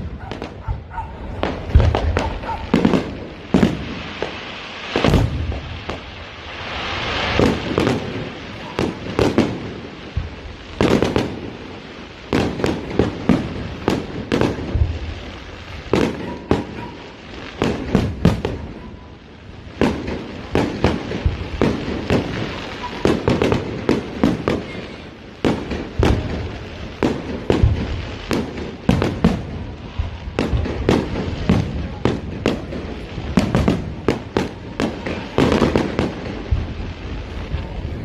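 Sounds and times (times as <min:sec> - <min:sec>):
fireworks bangs and pops: 0:00.0 - 0:38.0
fireworks crackling hiss: 0:00.0 - 0:38.0.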